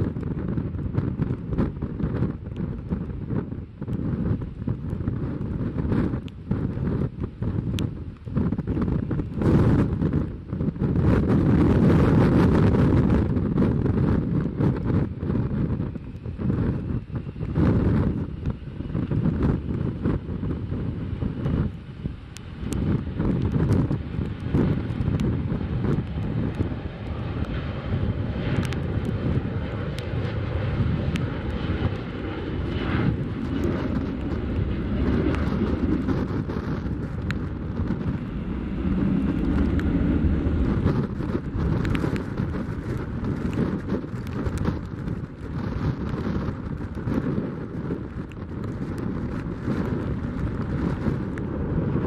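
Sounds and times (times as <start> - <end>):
jet engines rumbling: 0.0 - 52.0
wind buffeting microphone: 0.0 - 52.0.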